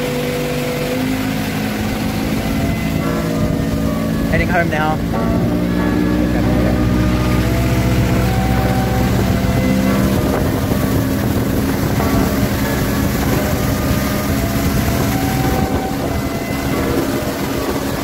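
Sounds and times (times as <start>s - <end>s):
outboard motor running: 0.0s - 18.0s
water rushing past hull: 0.0s - 18.0s
wind on microphone: 0.0s - 18.0s.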